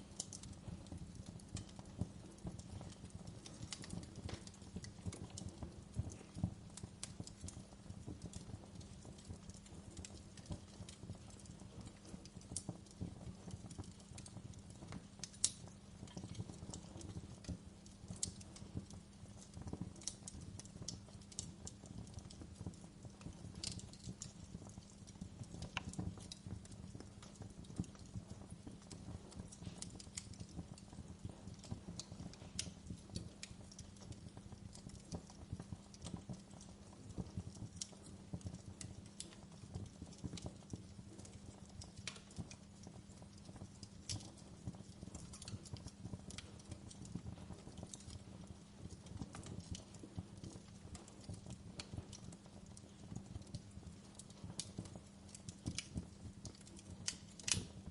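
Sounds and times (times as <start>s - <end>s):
burning logs rumbling: 0.0s - 57.9s
wood fire crackling: 0.0s - 57.9s.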